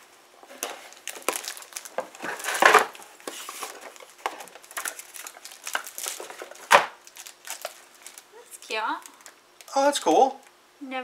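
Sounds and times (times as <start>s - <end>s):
packaging crinkling and scraping: 0.5s - 9.4s.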